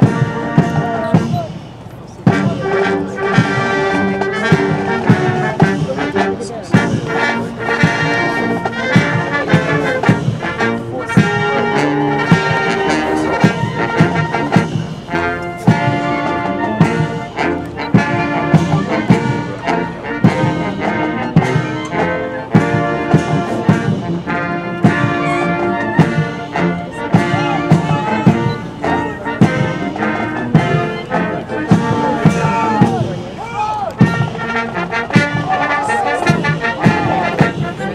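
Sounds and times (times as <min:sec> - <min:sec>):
brass band playing a march: 0:00.0 - 0:37.9
steady drum beat: 0:00.0 - 0:37.9.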